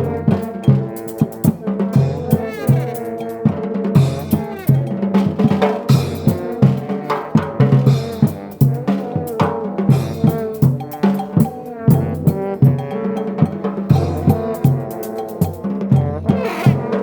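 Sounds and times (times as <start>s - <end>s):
snare and bass drum beat: 0.0s - 17.0s
trombones playing: 0.0s - 17.0s.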